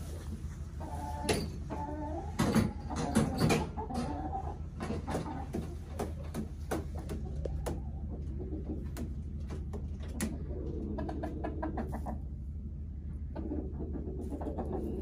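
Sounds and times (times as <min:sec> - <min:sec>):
chickens clucking softly: 0:00.0 - 0:15.0
low steady hum: 0:00.0 - 0:15.0.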